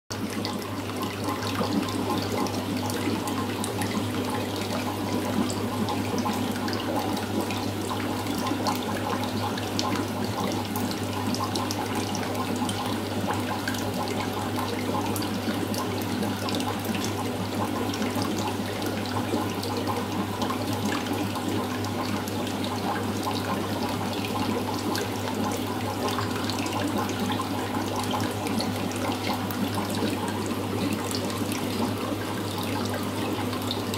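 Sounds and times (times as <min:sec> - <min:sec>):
aquarium water trickling and bubbling: 0:00.1 - 0:33.9.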